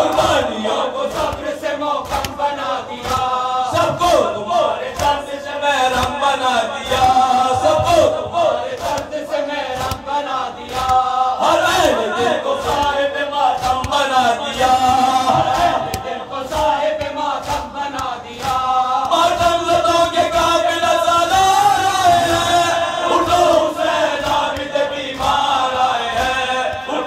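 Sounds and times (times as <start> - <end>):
hands slapping chests: 0.0 - 27.0
men chanting in unison: 0.0 - 27.0.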